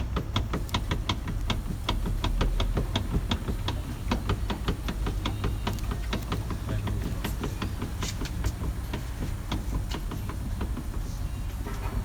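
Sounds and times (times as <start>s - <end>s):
rapid driveline clicking: 0.0s - 11.8s.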